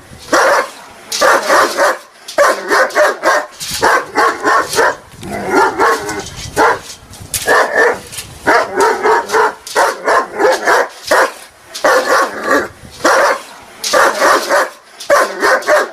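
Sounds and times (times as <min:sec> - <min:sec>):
dog barking aggressively: 0:00.3 - 0:15.9.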